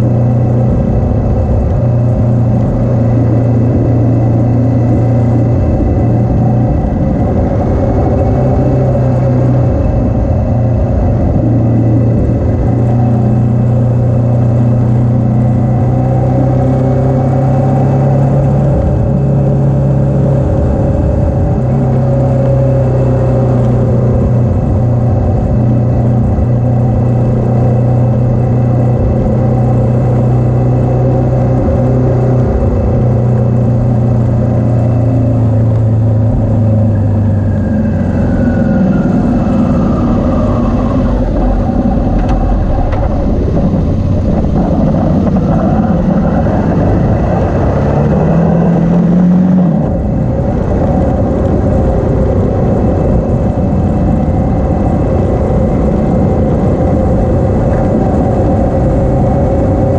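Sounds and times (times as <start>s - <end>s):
motorcycle engine cruising: 0.0s - 59.9s
wind rumbling on microphone: 0.0s - 59.9s.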